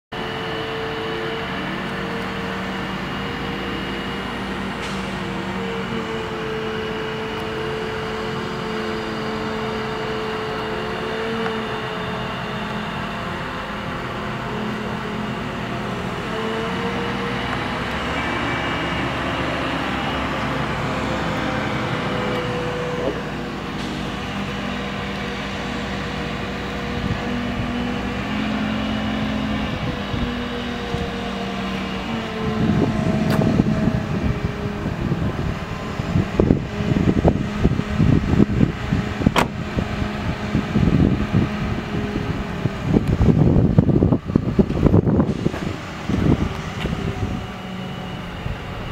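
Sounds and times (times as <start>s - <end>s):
truck engine running: 0.1s - 48.9s
uneven low rumbling: 0.8s - 48.9s.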